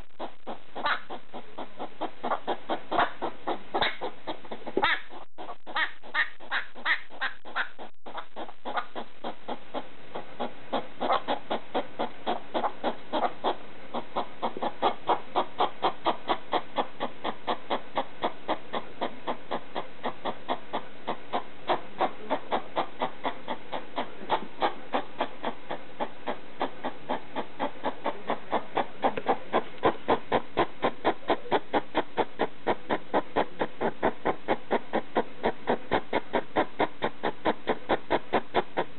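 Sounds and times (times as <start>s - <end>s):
hedgehog barking: 0.0s - 38.9s.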